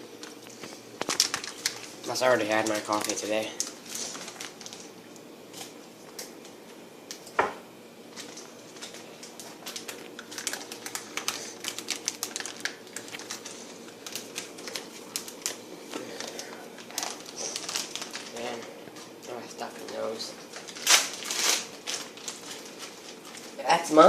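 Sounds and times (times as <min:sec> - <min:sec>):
plastic packets crinkling: 0:00.2 - 0:05.8, 0:08.1 - 0:24.0.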